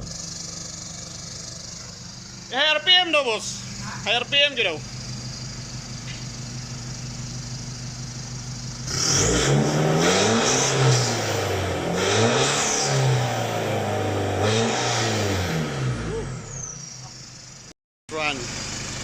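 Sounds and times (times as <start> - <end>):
diesel engine idling and revving: 0.0 - 19.0.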